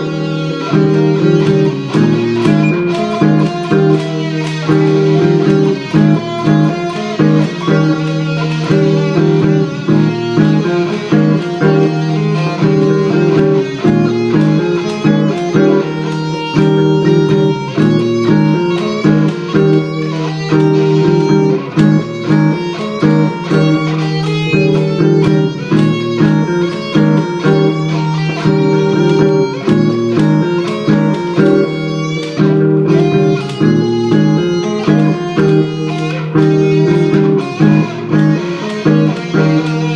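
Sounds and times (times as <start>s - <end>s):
electric guitar lead lines: 0.0s - 39.9s
looped guitar backing part: 0.0s - 39.9s.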